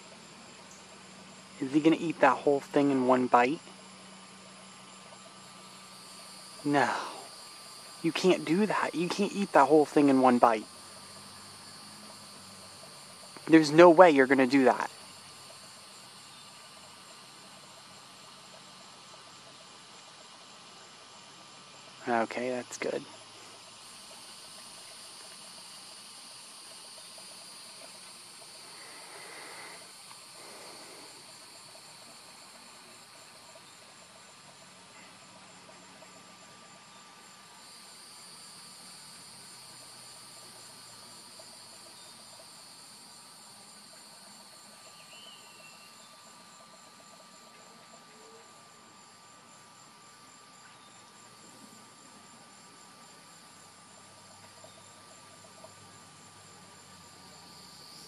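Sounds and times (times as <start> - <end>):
crickets and insects trilling: 0.0 - 58.0.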